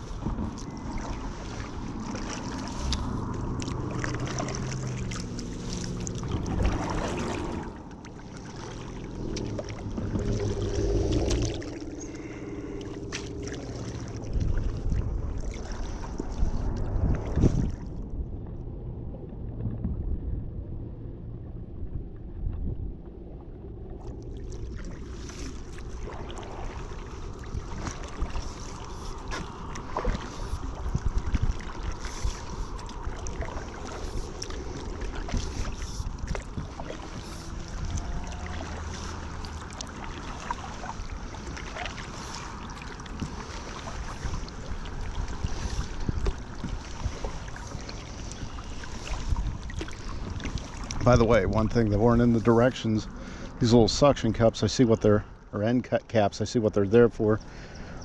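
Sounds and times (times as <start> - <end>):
water splashing and dripping: 0.0 - 18.4, 23.9 - 53.4
wind rumbling on microphone: 0.0 - 55.6.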